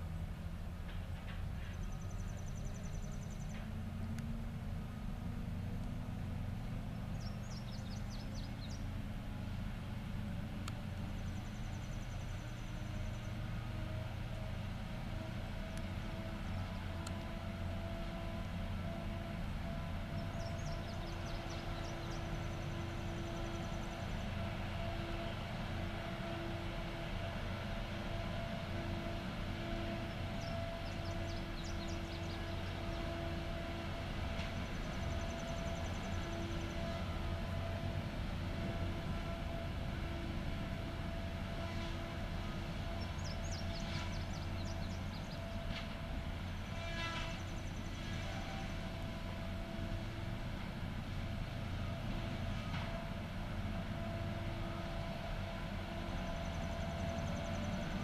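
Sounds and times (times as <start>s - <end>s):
heavy machine engine humming: 0.0s - 58.0s.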